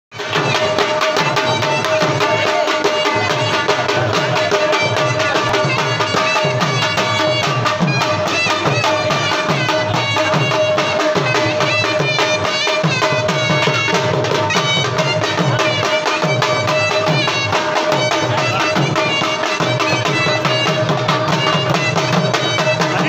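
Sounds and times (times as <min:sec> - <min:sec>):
fast dhol drum beat: 0:00.1 - 0:23.0.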